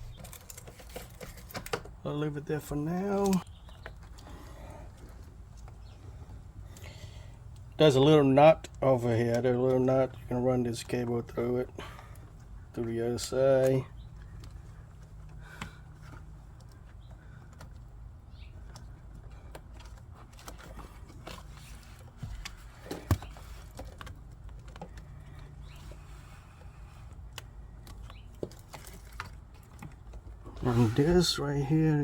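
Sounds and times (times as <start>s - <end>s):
wire rustling through plastic trim: 0.0s - 7.7s, 13.5s - 32.0s.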